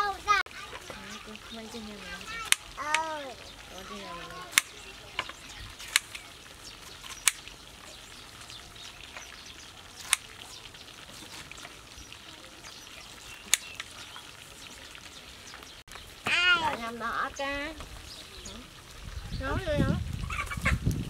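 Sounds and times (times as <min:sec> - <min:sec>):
faint outdoor background: 0:00.0 - 0:21.0.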